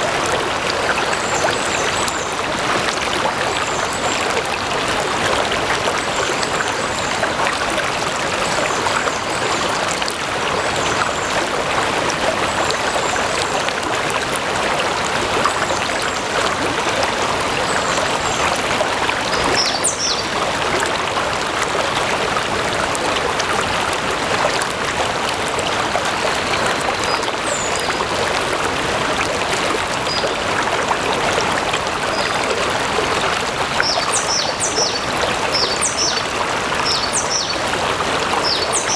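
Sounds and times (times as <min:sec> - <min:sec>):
stream of water flowing: 0:00.0 - 0:38.9.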